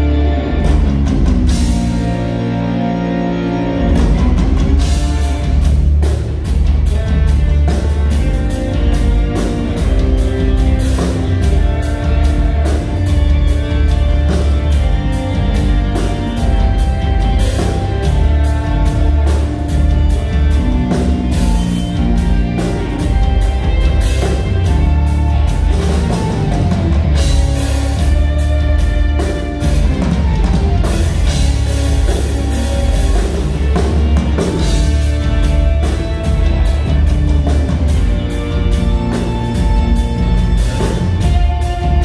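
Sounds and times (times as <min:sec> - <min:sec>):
live rock band playing: 0:00.0 - 0:42.0
drum kit steady beat: 0:00.6 - 0:02.6, 0:03.8 - 0:42.0.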